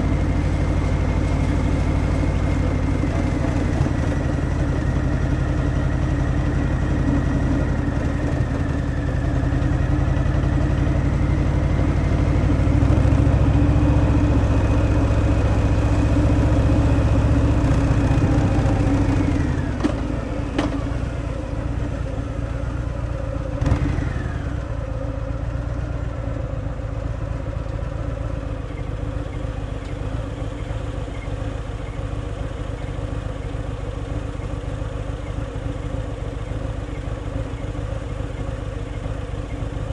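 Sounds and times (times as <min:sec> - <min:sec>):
motorcycle engine on the road: 0:00.0 - 0:39.9.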